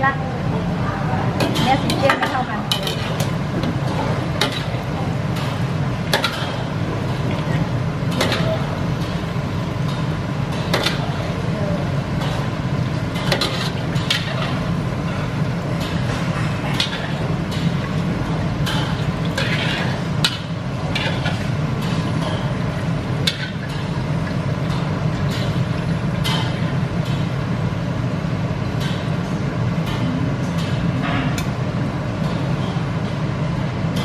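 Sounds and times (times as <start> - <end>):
gas burner humming: 0.0 - 34.0
oil frying: 1.5 - 29.6.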